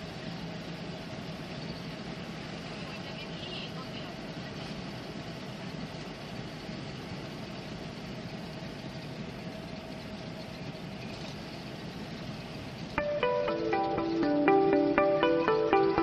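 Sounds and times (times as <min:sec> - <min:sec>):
car engine and tyre noise: 0:00.0 - 0:16.0
faint steady whine: 0:00.0 - 0:16.0.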